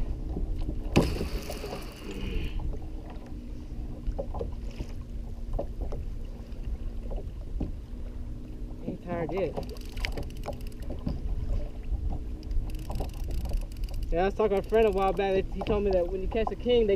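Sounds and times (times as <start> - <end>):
water lapping against hull: 0.0 - 16.9
wind rumbling on microphone: 0.0 - 16.9.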